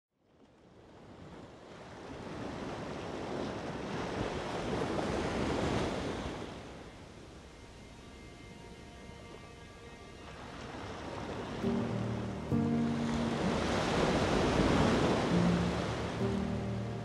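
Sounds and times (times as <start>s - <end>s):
ocean waves: 0.4s - 17.0s.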